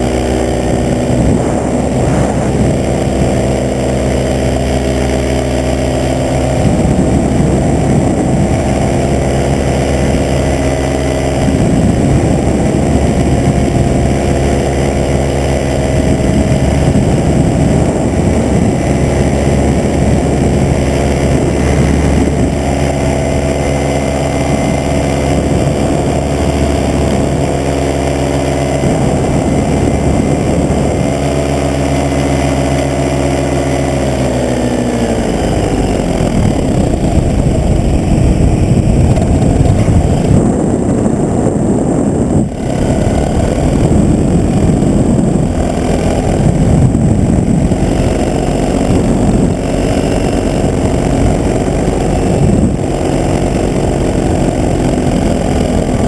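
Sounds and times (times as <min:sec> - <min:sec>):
paramotor engine running: 0:00.0 - 0:56.0
uneven rushing noise: 0:00.0 - 0:56.0.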